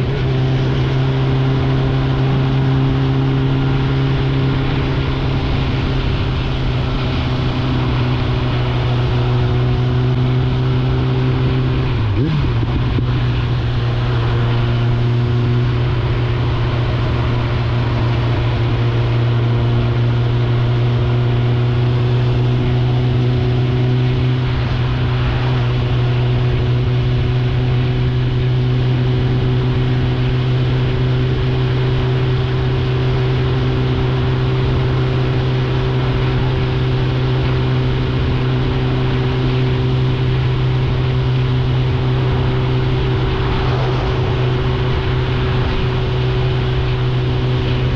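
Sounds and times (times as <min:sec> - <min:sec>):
motorcycle engine running steadily: 0:00.0 - 0:47.9.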